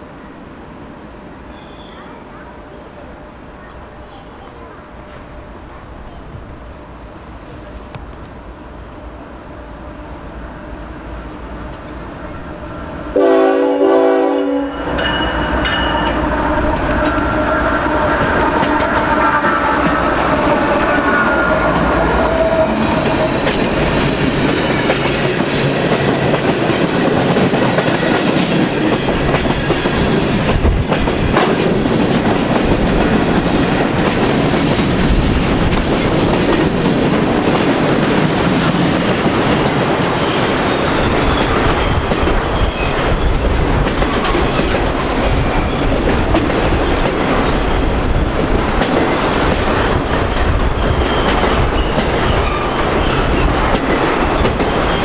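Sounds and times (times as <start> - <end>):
freight train wheels rumbling on rail: 0.0 - 55.0.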